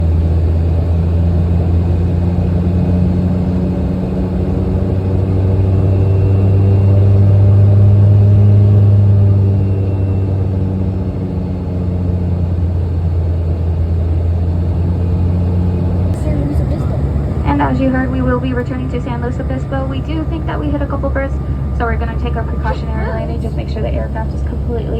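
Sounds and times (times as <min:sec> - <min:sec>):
jet engine drone in cabin: 0:00.0 - 0:24.9.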